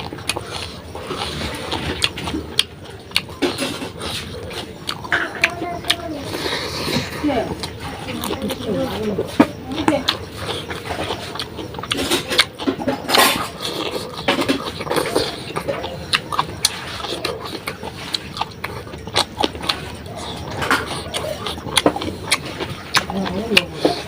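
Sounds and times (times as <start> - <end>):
person chewing and smacking: 0.0 - 24.0.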